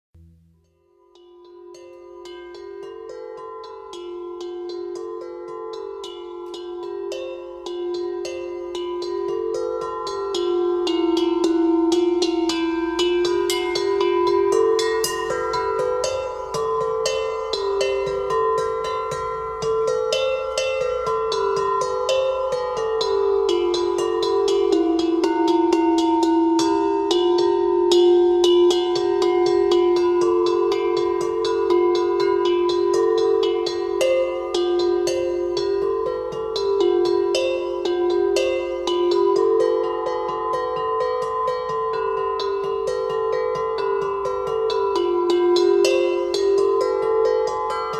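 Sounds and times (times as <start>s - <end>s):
cowbells clanking: 1.1s - 47.9s.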